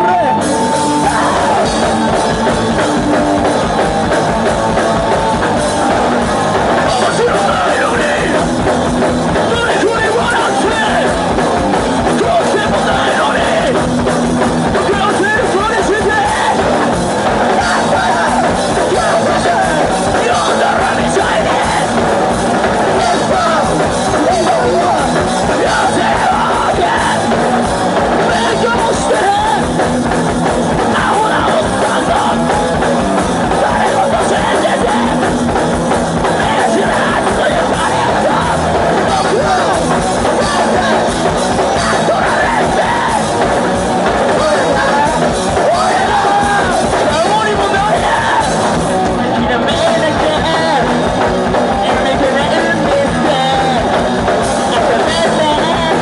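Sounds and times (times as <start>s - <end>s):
punk band playing loud: 0.0s - 56.0s
yelled vocals: 0.0s - 56.0s.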